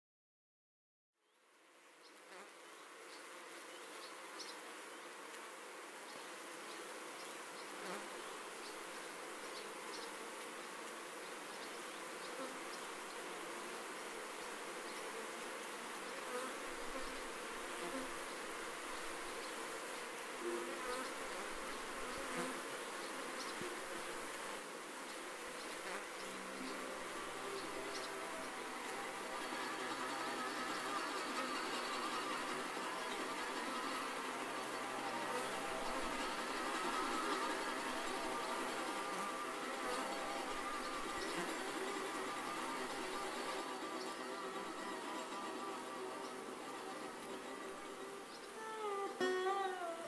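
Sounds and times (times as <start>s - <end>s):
bees buzzing: 2.2s - 50.0s.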